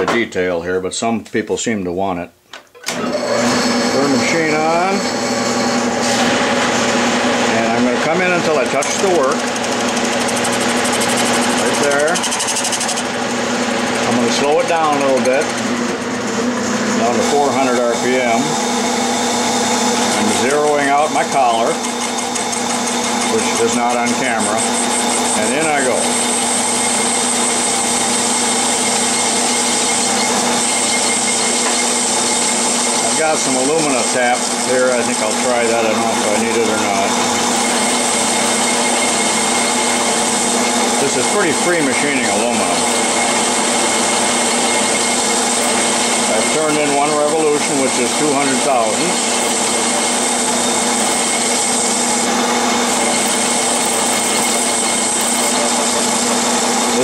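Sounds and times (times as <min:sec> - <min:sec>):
metal lathe humming: 0:02.8 - 0:57.0.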